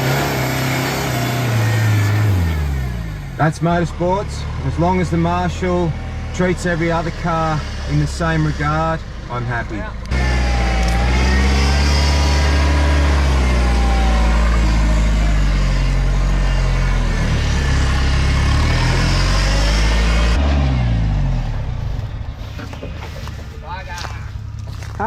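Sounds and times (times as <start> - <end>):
off-road engine revving: 0.0 - 25.0.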